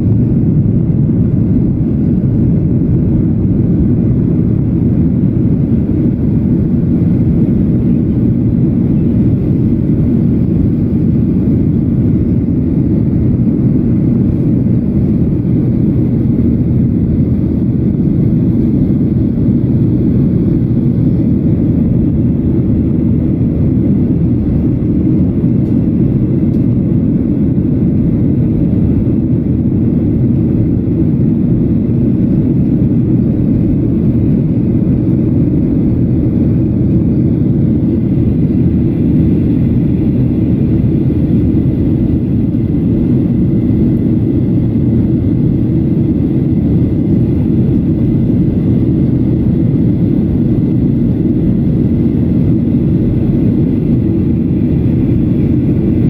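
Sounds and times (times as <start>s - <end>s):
aircraft cabin jet engine roar: 0.0s - 56.0s.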